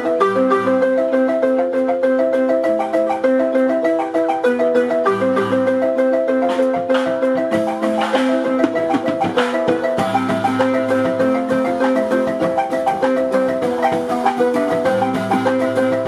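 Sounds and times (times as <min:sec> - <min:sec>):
marimba ensemble playing: 0:00.0 - 0:16.0.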